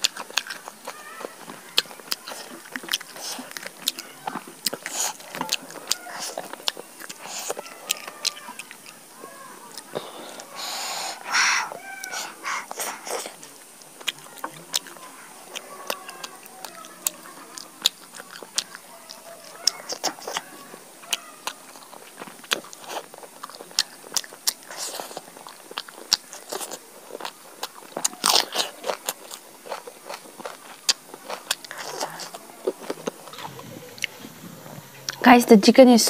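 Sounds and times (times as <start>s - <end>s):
chewing with wet mouth smacks: 0.0s - 10.6s, 12.0s - 35.3s.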